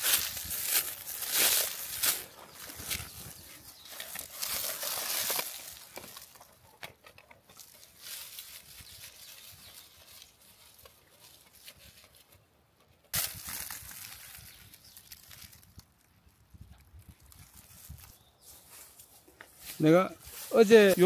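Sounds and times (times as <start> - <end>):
dry leaves rustling: 0.0 - 6.7, 7.5 - 12.4, 13.1 - 21.0.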